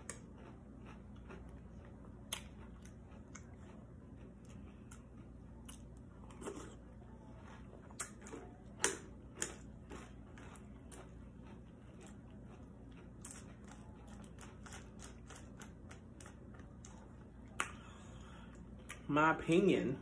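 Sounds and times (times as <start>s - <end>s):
cereal being chewed: 0.0s - 19.0s.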